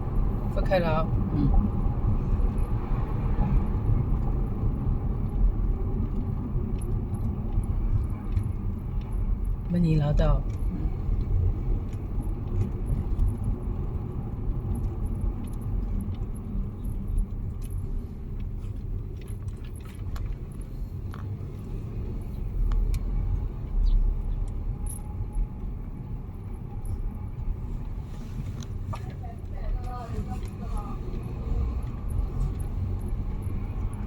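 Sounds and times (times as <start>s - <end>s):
tyre and engine rumble: 0.0s - 34.0s.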